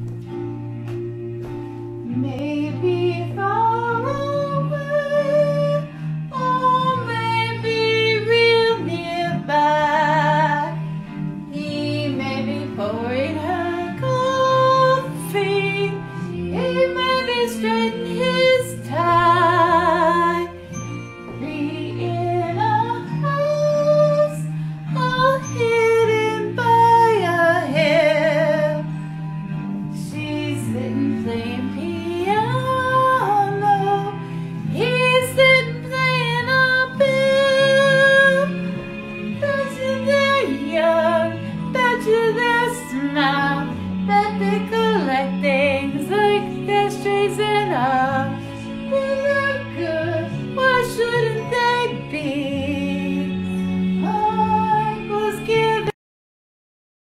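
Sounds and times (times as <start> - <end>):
karaoke backing track: 0.0 - 55.9
woman singing a slow ballad: 2.0 - 55.9.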